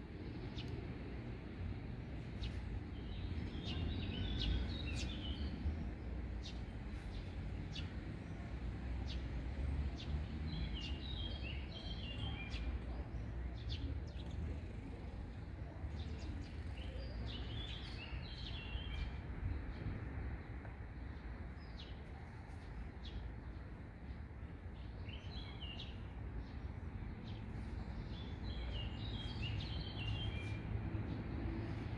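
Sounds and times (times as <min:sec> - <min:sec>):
songbirds chirping: 0:00.0 - 0:31.9.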